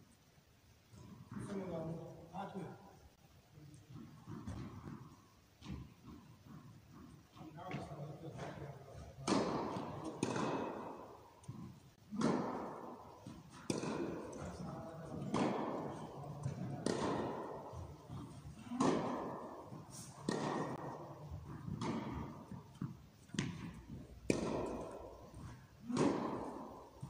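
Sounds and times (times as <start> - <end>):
tennis rackets hitting balls: 3.8 - 27.0.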